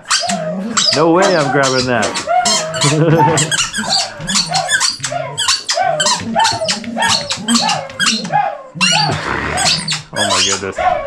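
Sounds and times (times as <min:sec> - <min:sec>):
squeaky dog toy squeaking: 0:00.0 - 0:10.7.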